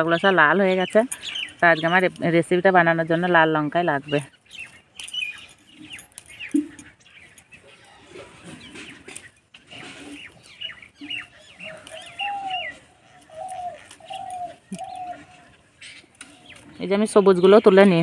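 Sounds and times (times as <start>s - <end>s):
leaves rustling: 0.0s - 18.0s
small birds chirping: 0.0s - 18.0s.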